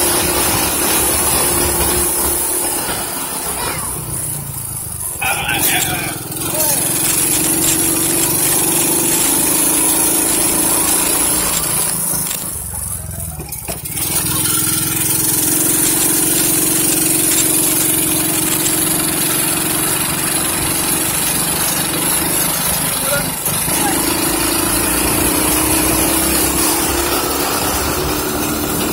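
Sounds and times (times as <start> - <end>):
quad bike engine running: 0.0 - 28.9.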